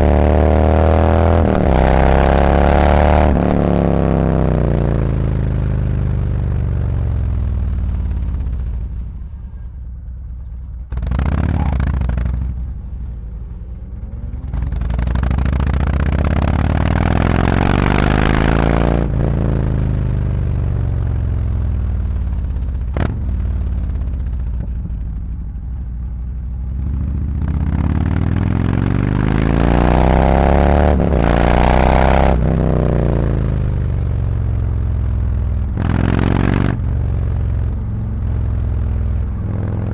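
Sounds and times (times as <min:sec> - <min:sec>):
motorcycle engine revving: 0:00.0 - 0:09.0, 0:10.9 - 0:12.8, 0:13.4 - 0:25.3, 0:26.5 - 0:39.9.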